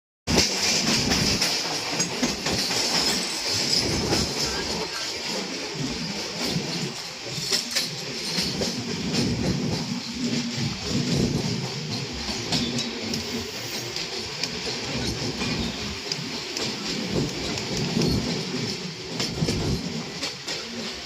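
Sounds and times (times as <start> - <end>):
vehicle rumbling and rattling: 0.3 - 21.0.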